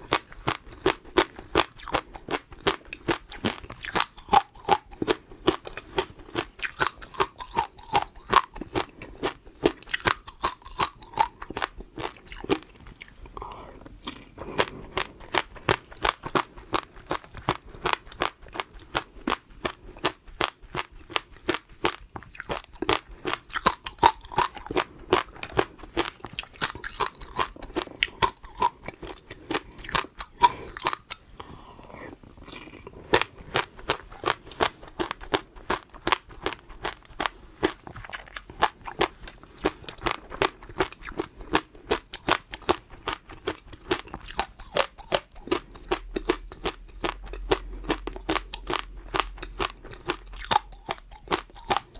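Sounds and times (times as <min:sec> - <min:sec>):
chewing crunchy food: 0:00.0 - 0:51.9.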